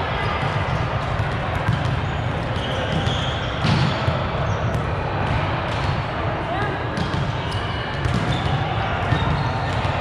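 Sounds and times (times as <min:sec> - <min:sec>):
echoing sports hall din: 0:00.0 - 0:10.0.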